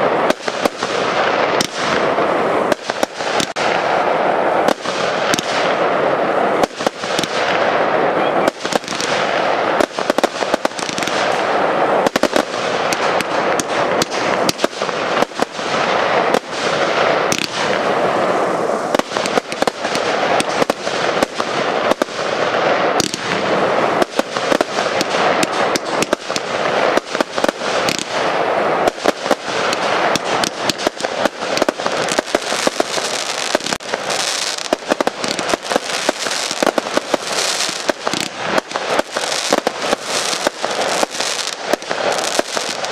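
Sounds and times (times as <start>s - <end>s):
continuous hiss: 0.0s - 42.9s
fireworks bangs and crackles: 0.0s - 42.9s.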